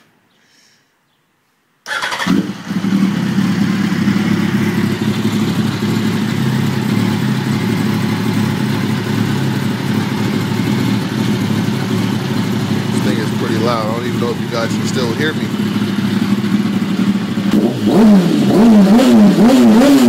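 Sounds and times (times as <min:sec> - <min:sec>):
motorcycle engine starting and idling: 0:01.9 - 0:20.0.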